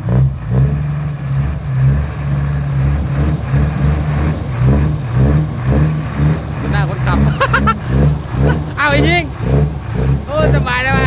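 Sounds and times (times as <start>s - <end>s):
truck engine revving under load: 0.0s - 11.0s.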